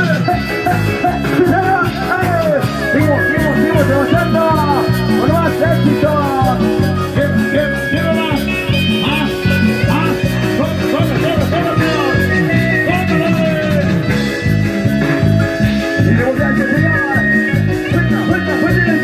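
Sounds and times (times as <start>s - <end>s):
electric bass: 0.0s - 19.0s
electronic keyboard melody: 0.0s - 19.0s.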